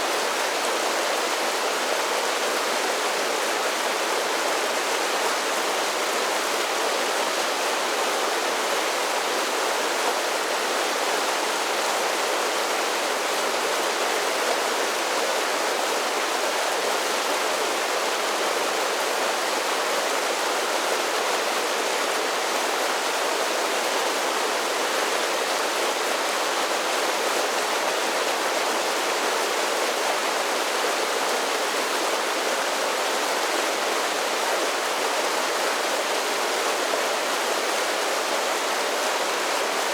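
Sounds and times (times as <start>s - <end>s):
creek water rushing over falls: 0.0s - 39.9s.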